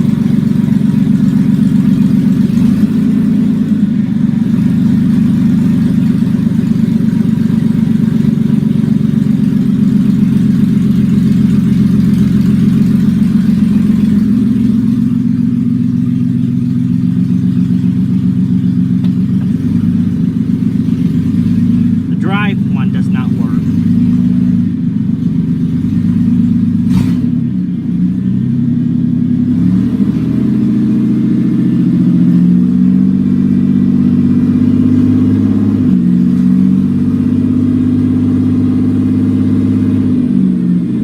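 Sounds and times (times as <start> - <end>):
loud deep raw engine exhaust: 0.0 - 41.0.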